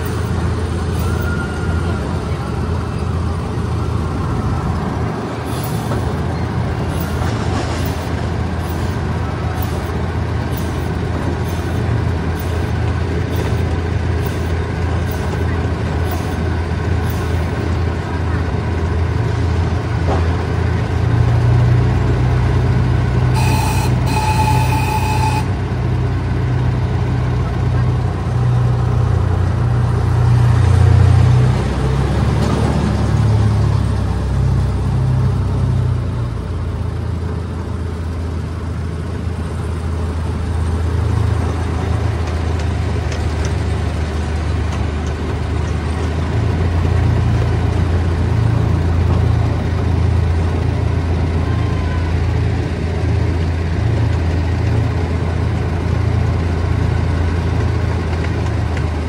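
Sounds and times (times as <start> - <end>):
small locomotive engine rumbling: 0.0 - 59.0.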